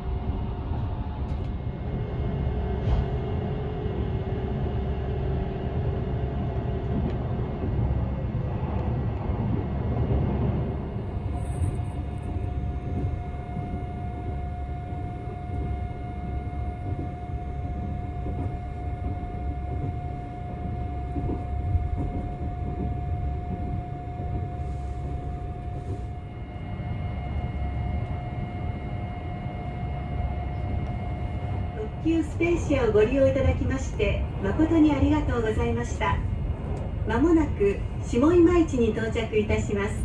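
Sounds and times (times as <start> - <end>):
train wheels rumbling on rail: 0.0 - 40.0
train whine: 0.0 - 40.0.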